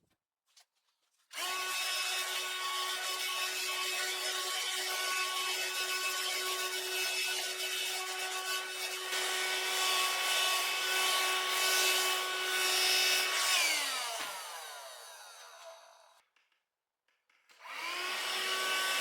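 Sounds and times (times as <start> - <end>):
hand-held vacuum cleaner running: 1.3 - 16.2, 17.6 - 19.0.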